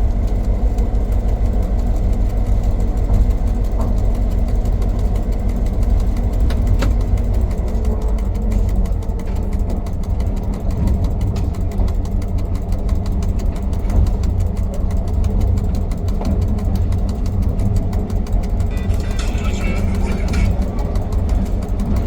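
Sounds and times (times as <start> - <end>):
fine regular ticking: 0.0 - 22.0
locomotive engine rumbling: 0.0 - 22.0.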